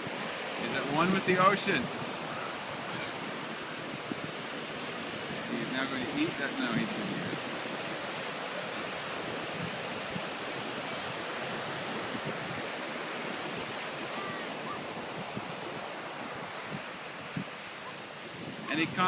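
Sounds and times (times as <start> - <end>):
ocean surf washing onto beach: 0.0 - 19.0.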